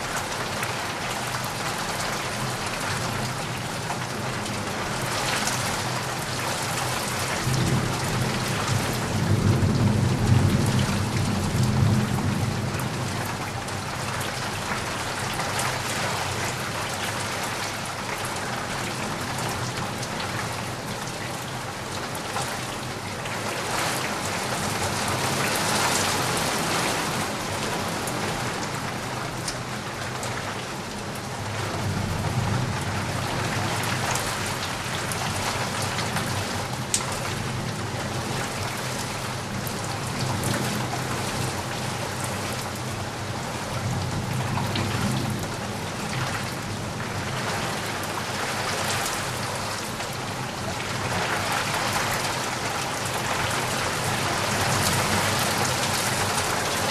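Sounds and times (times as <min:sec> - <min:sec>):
heavy rain with drops tapping: 0:00.0 - 0:56.9.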